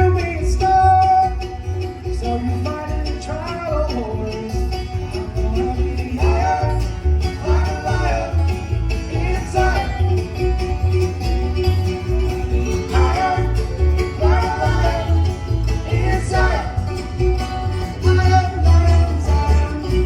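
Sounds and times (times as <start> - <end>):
person singing: 0.0 - 10.6, 12.4 - 20.0
plucked string instruments: 0.0 - 20.0
steady bass beat: 0.0 - 20.0.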